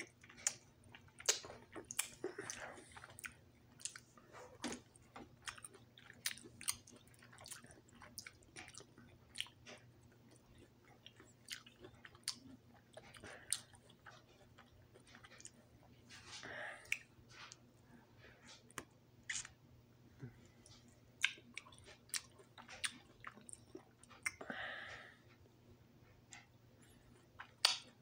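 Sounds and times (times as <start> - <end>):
person chewing fruit: 0.0 - 19.6, 20.2 - 28.0.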